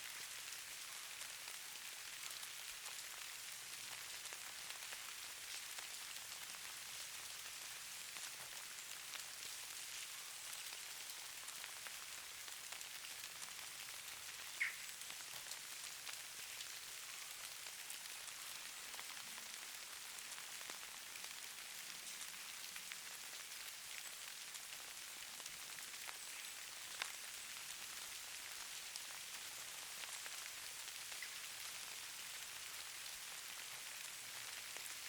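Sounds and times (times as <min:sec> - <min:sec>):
rain patter: 0:00.0 - 0:35.0.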